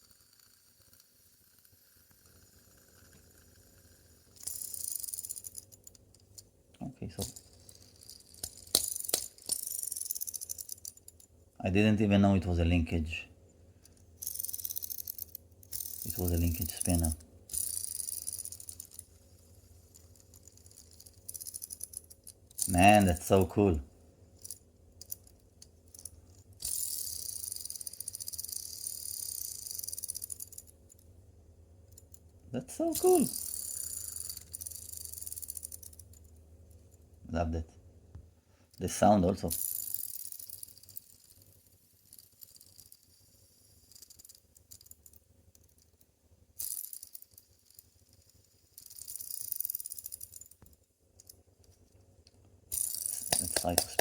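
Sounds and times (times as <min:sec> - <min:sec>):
fidget spinner rattling: 0:00.0 - 0:11.6, 0:13.8 - 0:31.2, 0:31.8 - 0:37.2, 0:38.7 - 0:54.0.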